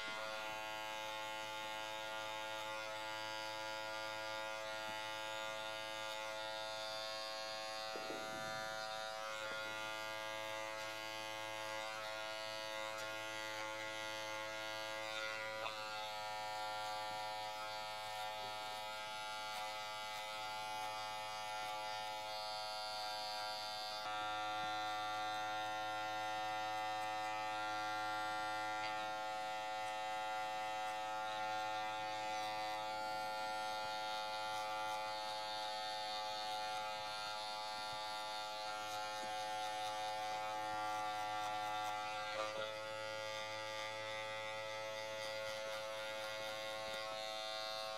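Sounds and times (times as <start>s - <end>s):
electric hair clippers buzzing: 0.0s - 47.9s.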